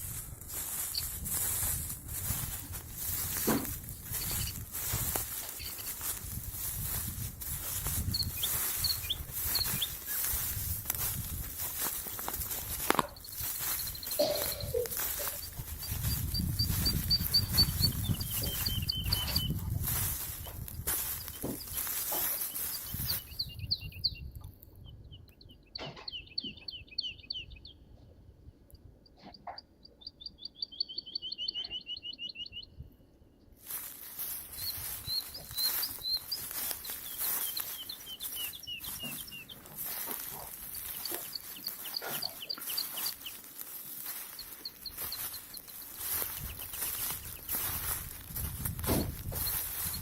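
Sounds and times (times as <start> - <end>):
songbird trilling: 0.6 - 27.8, 29.4 - 32.8, 34.2 - 48.6.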